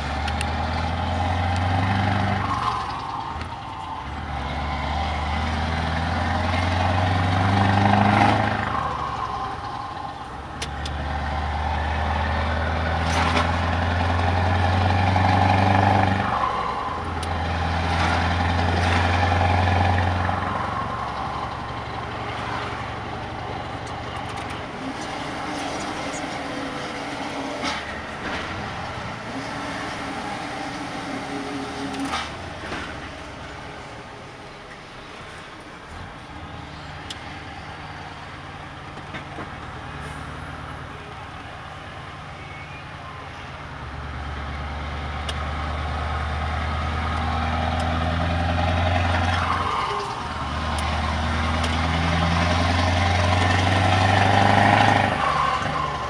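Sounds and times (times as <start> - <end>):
truck diesel engine accelerating: 0.0 - 56.0.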